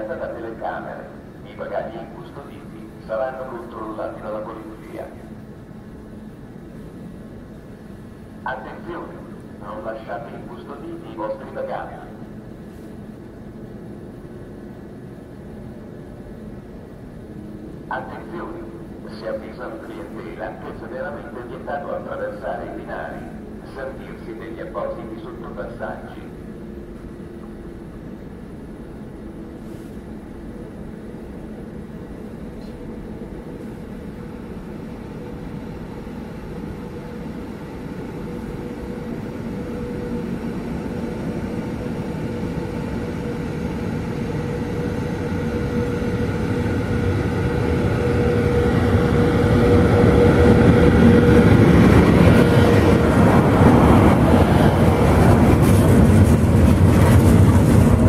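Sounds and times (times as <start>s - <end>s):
electric train rumbling past: 0.0s - 58.0s
train whine: 0.0s - 58.0s.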